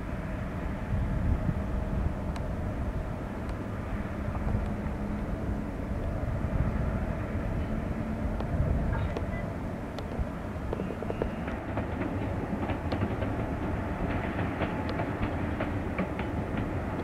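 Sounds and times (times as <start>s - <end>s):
locomotive low hum: 0.0s - 17.0s
train rumbling: 0.0s - 17.0s.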